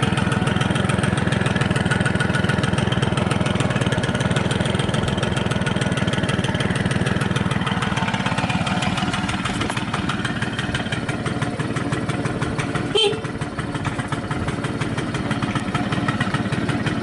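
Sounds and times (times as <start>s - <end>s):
moped engine idling: 0.0s - 17.0s.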